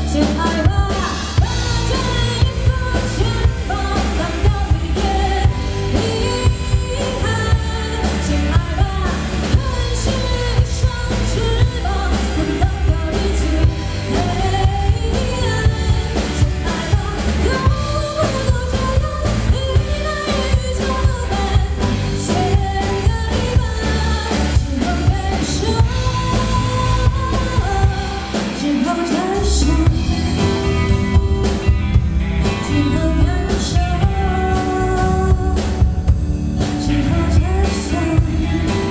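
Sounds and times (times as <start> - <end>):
person singing lead vocal: 0.0 - 31.4, 32.4 - 38.9
bass guitar: 0.0 - 38.9
drum kit: 0.0 - 38.9
electric guitar: 0.0 - 38.9
rock song: 0.0 - 38.9.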